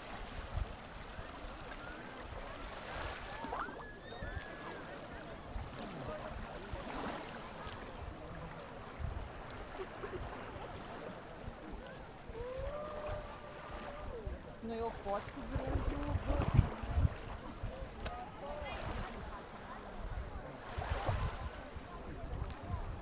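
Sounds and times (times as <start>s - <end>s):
gentle surf and lapping water: 0.0s - 23.0s.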